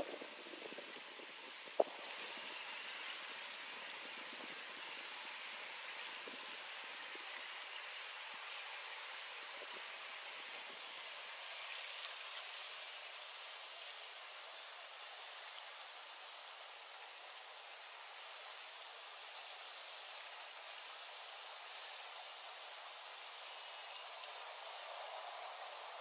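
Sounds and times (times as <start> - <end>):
freezing rain hissing: 0.0 - 26.0.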